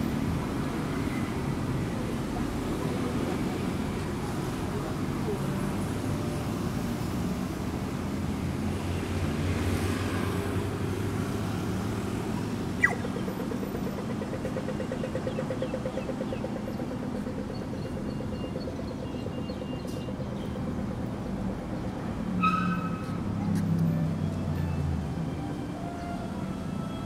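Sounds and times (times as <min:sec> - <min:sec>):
engine hum: 0:00.0 - 0:27.0
traffic rumble: 0:00.0 - 0:27.0.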